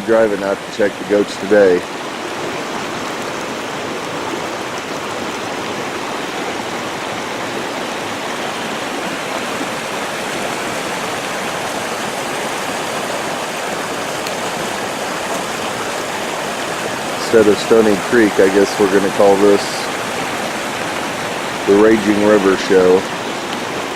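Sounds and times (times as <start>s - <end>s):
flooded creek rushing: 0.0s - 23.9s.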